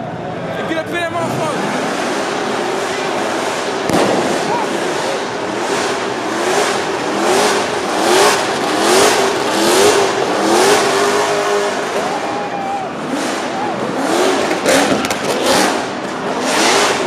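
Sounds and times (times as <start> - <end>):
tyres spinning and exhaust rushing: 0.0 - 17.0
car engine revving hard: 1.2 - 17.0.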